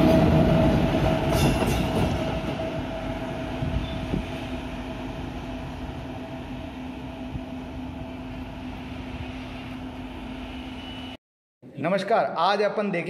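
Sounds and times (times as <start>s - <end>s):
electric locomotive rumbling: 0.0s - 11.2s.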